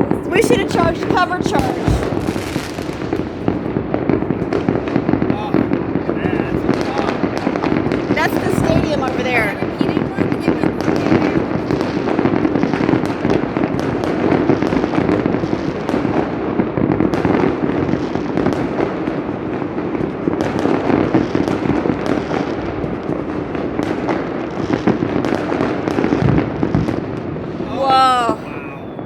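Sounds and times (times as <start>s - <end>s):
fireworks and firecrackers bangs: 0.0s - 29.0s.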